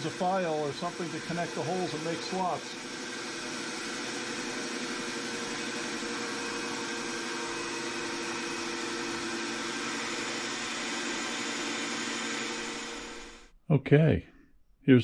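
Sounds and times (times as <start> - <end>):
drill press drilling steel: 0.0 - 13.5.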